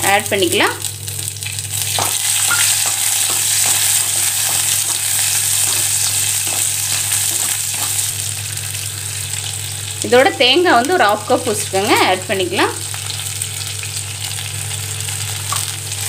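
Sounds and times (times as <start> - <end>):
shallots sizzling in oil: 0.0 - 16.0.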